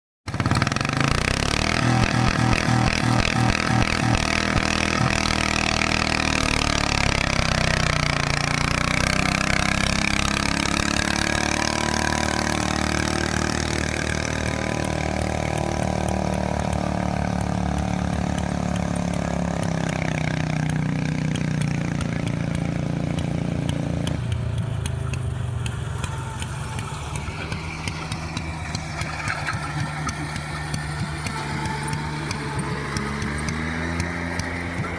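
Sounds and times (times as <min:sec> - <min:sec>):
tractor engine under load: 0:00.3 - 0:34.9.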